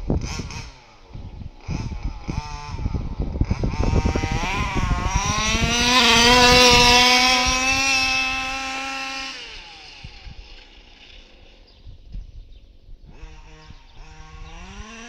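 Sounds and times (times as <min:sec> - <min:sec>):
rc buggy engine revving: 0:00.0 - 0:12.1, 0:13.0 - 0:15.0.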